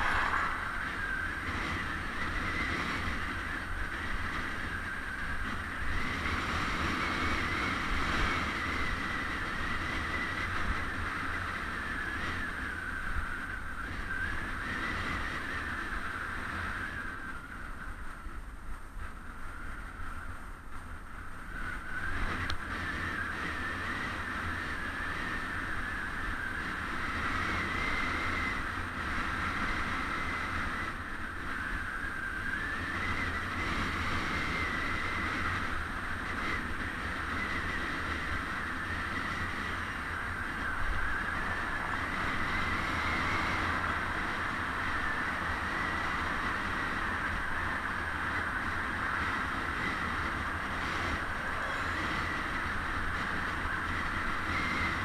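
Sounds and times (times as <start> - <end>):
bicycle road rumble: 0.0 - 55.0
wind: 0.0 - 55.0.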